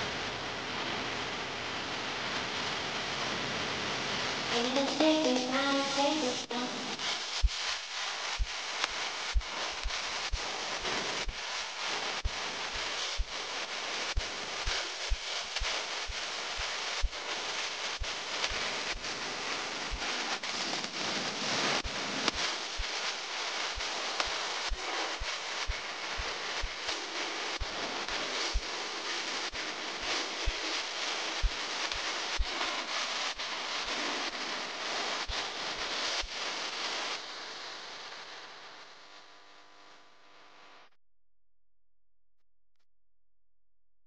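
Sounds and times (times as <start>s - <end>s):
wind hiss on microphone: 0.0s - 39.3s.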